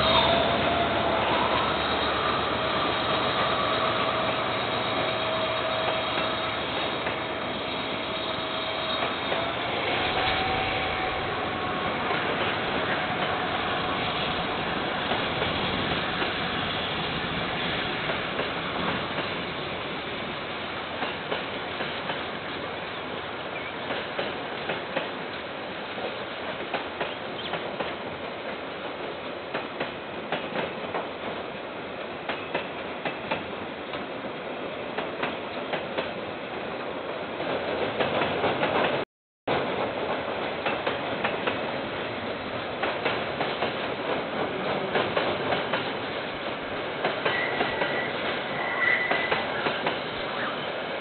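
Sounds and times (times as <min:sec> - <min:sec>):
train rolling rumble: 0:00.0 - 0:51.0.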